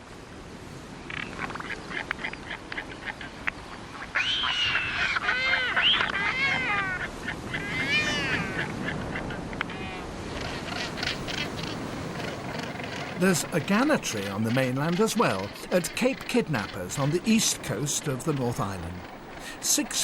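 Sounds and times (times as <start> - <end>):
seabirds wailing calls: 1.0 - 20.0.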